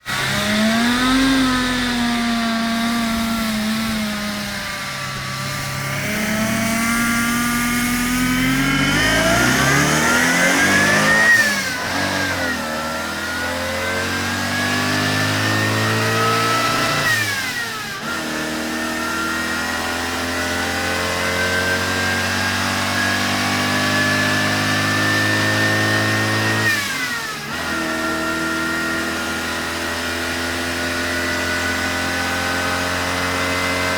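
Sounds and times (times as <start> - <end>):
car engine accelerating through gears: 0.0 - 33.9.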